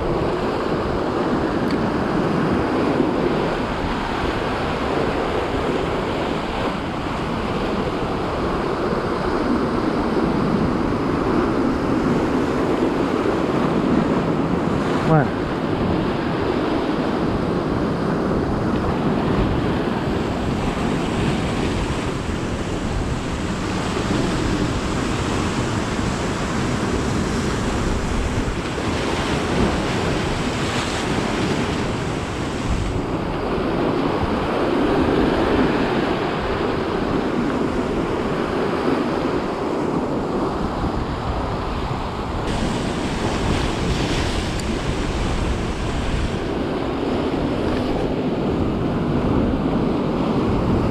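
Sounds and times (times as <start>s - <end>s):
sea surf: 0.0s - 50.9s
wind buffeting microphone: 0.0s - 50.9s.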